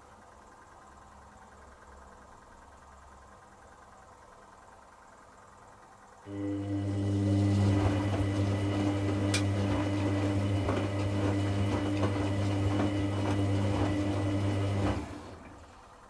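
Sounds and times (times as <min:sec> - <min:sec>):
mains hum: 0:00.0 - 0:16.0
washing machine drain pump: 0:02.3 - 0:16.0.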